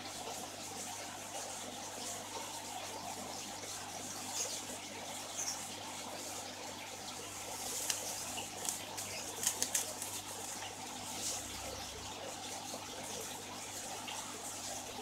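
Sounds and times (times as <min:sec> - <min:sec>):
water bubbling and trickling: 0:00.0 - 0:15.0.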